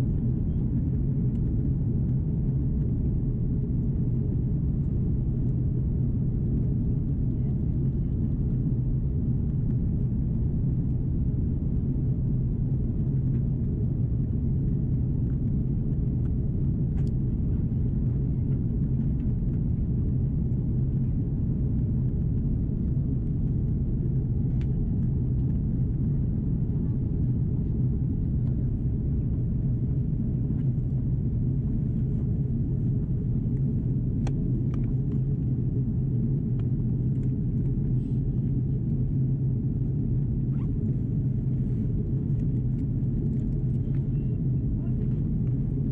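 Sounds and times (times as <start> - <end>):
airliner cabin rumble: 0.0 - 45.9.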